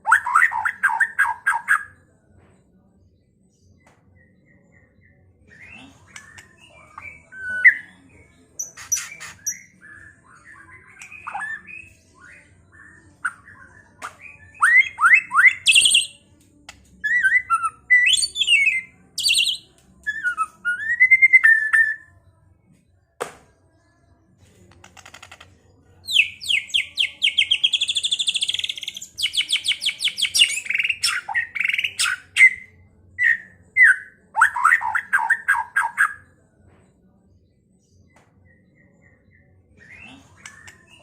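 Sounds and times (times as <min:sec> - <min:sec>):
songbird singing whistles and chirps: 0:00.0 - 0:02.0, 0:03.5 - 0:22.3, 0:26.0 - 0:36.4, 0:37.8 - 0:41.0.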